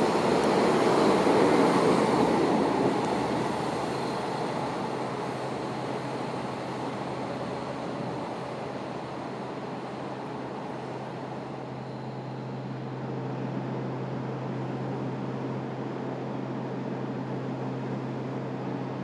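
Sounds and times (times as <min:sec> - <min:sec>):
diesel train pulling away: 0:00.0 - 0:18.9.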